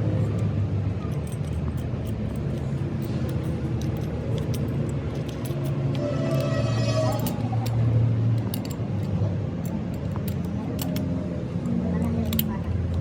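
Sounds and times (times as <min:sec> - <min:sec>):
metallic clinks and taps: 0:00.1 - 0:13.0.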